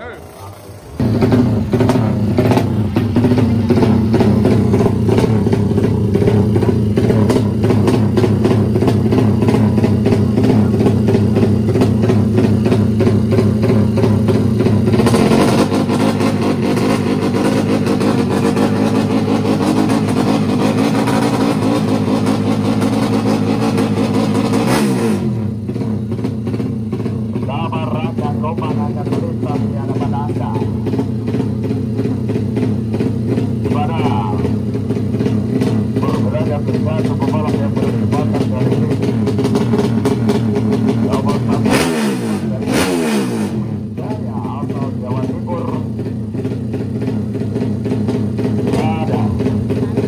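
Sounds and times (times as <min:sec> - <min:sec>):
motorcycle engine at high idle: 0:00.0 - 0:50.0.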